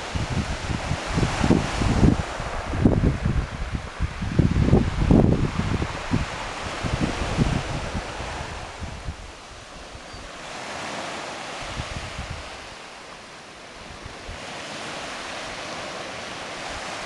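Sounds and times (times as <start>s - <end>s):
wind buffeting microphone: 0.0s - 13.0s, 13.7s - 17.0s
surf washing over pebbles: 0.0s - 17.0s.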